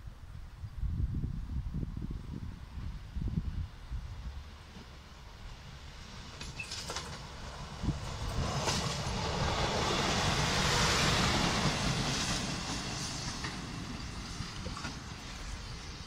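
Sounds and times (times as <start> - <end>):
diesel railbus passing: 1.5 - 16.0.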